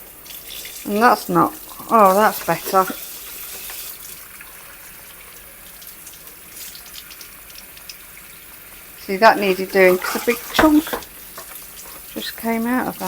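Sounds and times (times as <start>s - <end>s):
tap water running into sink: 0.0s - 13.0s
small water splashes: 0.2s - 13.0s.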